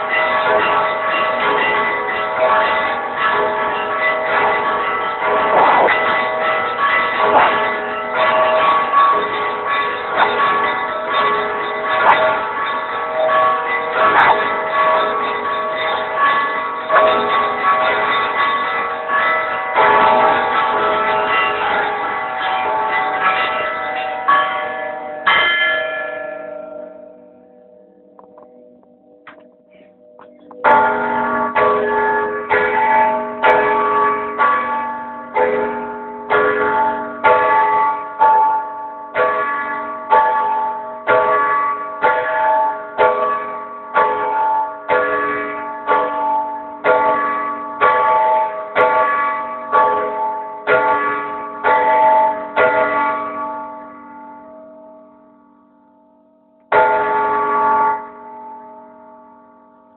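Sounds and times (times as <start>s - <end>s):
large church bell ringing: 0.0s - 59.9s.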